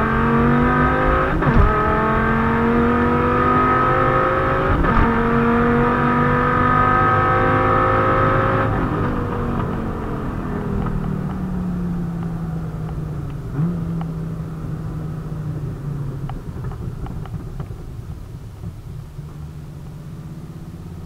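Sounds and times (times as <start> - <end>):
car engine rumble from cabin: 0.0 - 21.0.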